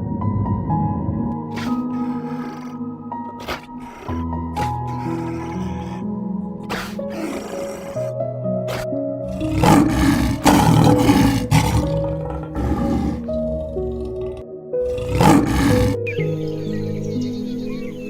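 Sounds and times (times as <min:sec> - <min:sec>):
background music: 0:00.0 - 0:18.0
animal roaring: 0:00.4 - 0:16.0.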